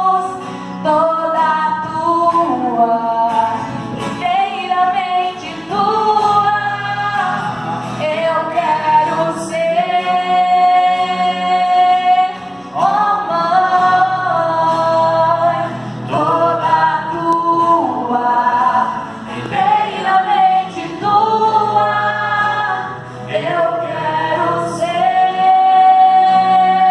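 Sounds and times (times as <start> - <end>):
voices singing: 0.0 - 26.9.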